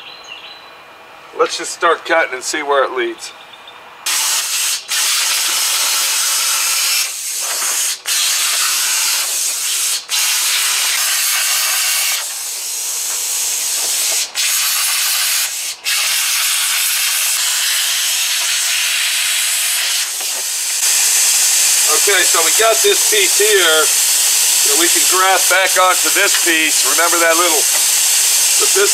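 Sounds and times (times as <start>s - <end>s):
plasma cutter hissing: 4.1s - 28.9s.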